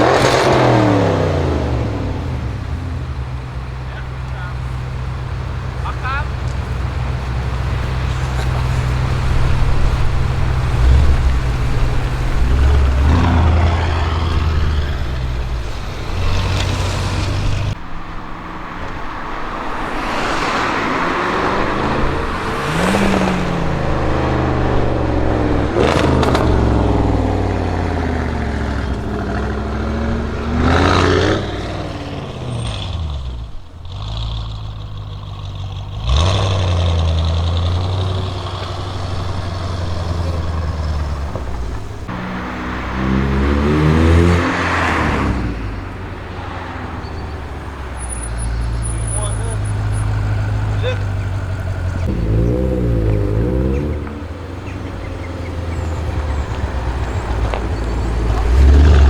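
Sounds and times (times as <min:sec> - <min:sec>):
car driving past: 0:00.0 - 0:59.0
car engine idling and revving: 0:00.0 - 0:59.0
exhaust cracks: 0:00.0 - 0:59.0
traffic: 0:00.0 - 0:59.0.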